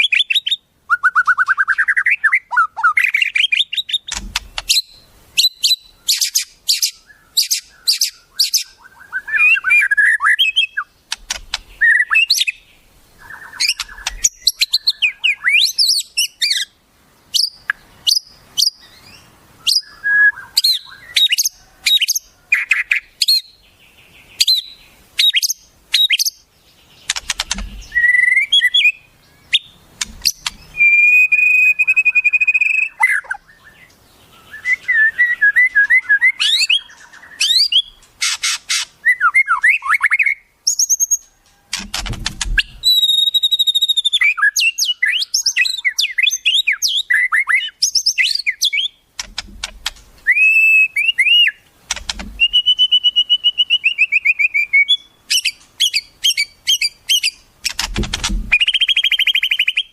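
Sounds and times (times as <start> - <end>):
harsh rasping bird calls: 0.0 - 59.9
songbird whistles and trills: 0.0 - 59.9.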